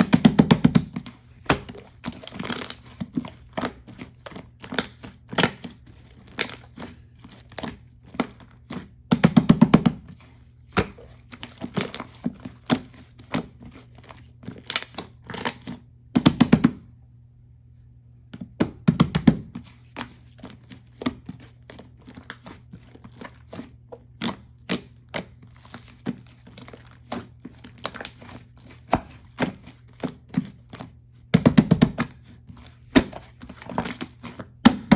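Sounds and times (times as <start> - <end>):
taps knocks and crinkling of handling: 0.0 - 16.8, 18.3 - 34.9.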